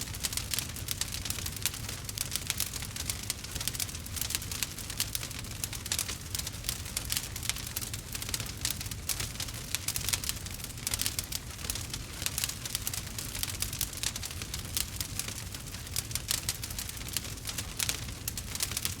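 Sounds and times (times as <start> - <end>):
fire rumbling: 0.0 - 19.0
wood fire crackling: 0.0 - 19.0.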